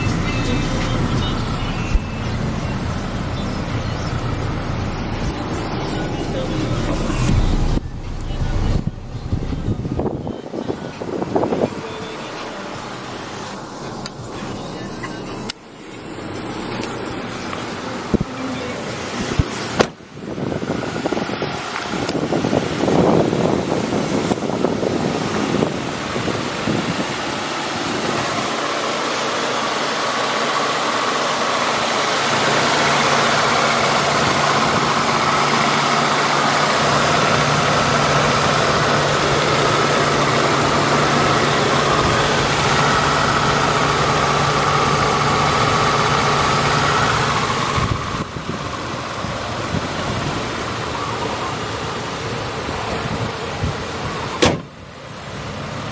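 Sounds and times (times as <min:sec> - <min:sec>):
pickup engine idling: 0:00.0 - 0:55.9.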